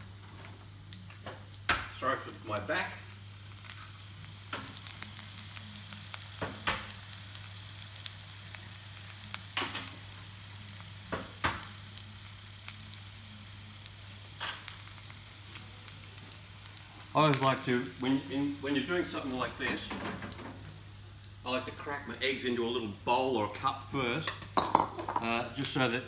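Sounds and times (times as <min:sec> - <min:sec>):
potato slices sizzling in oil: 0:00.0 - 0:26.0.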